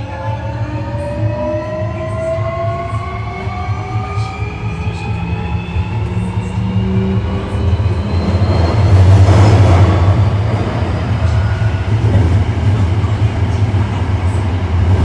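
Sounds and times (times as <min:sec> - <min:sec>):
train inverter whine: 0:00.0 - 0:15.0
wheels rumbling on rails: 0:00.0 - 0:15.0.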